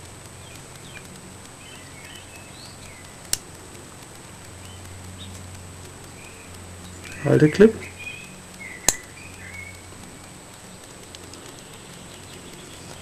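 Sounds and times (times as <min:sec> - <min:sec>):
low steady hum: 0:00.0 - 0:13.0
faint bird chirps: 0:00.4 - 0:03.3, 0:04.5 - 0:13.0.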